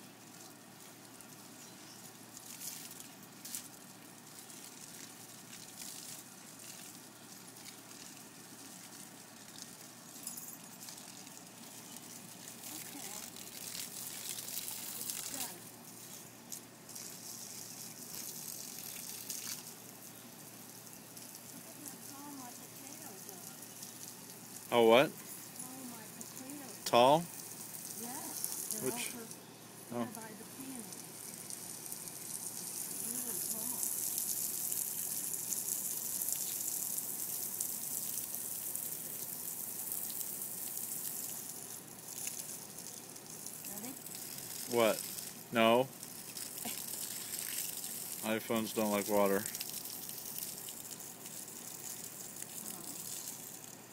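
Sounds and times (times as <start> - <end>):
garden hose spraying water: 0.0 - 53.9.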